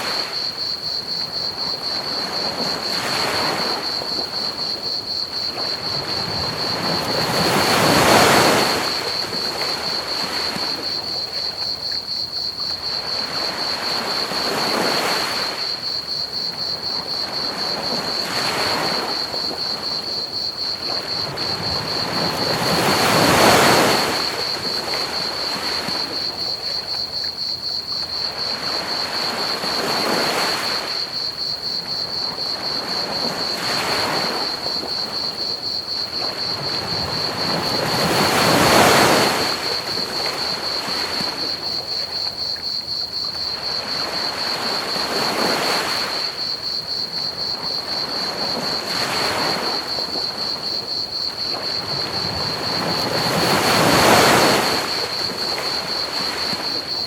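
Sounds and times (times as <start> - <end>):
crickets chirping: 0.0 - 57.0
ocean waves washing onto beach: 0.0 - 57.0.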